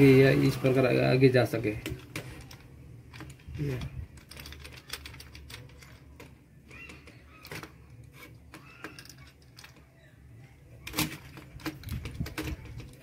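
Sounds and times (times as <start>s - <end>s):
wire twisting clicks and rustles: 1.6s - 13.0s.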